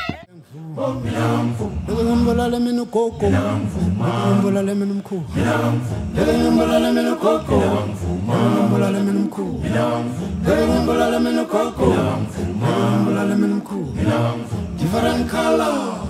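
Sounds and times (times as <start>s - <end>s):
group singing a cappella: 0.3s - 16.0s.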